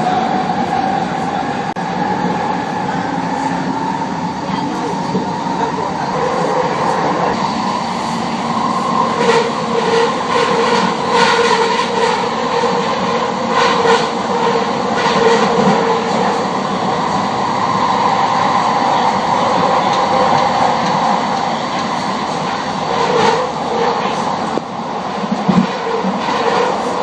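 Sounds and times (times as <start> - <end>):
train rumble and whine: 0.0 - 27.0.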